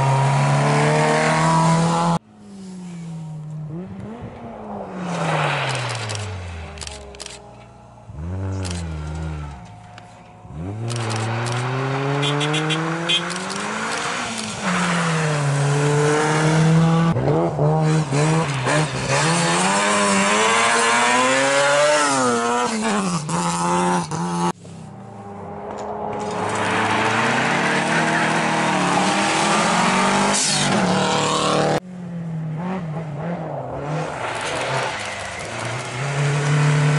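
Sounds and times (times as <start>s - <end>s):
rally car engine revving through gears: 0.0s - 2.2s, 8.1s - 9.8s, 10.4s - 31.8s, 32.4s - 36.9s
car engine driving away: 0.0s - 22.7s, 23.3s - 36.9s.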